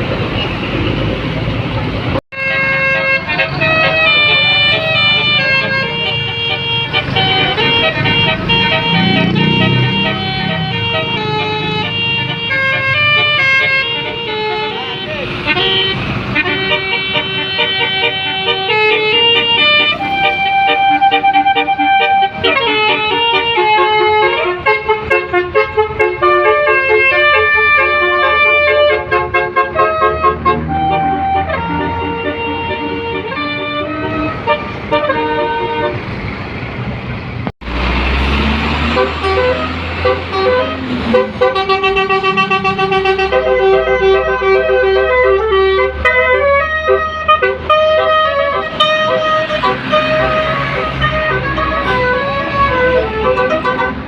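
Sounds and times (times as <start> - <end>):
multi-tone bus horn melody: 2.2 - 36.3, 37.6 - 54.0.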